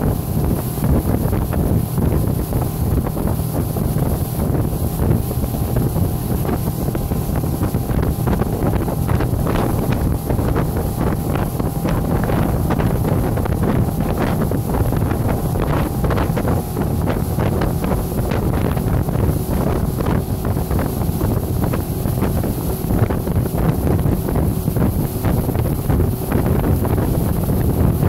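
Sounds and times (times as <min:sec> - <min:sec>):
churning boat wake: 0:00.0 - 0:28.0
outboard motor running: 0:00.0 - 0:28.0
wind buffeting microphone: 0:00.0 - 0:28.0.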